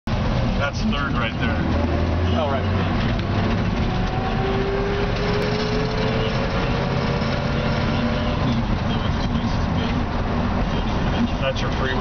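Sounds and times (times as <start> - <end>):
pickup truck engine pulling: 0.2 - 12.0.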